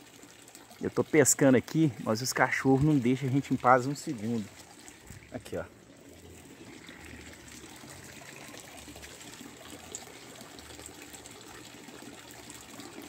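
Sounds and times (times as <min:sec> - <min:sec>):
water trickling into pond: 0:00.0 - 0:13.0.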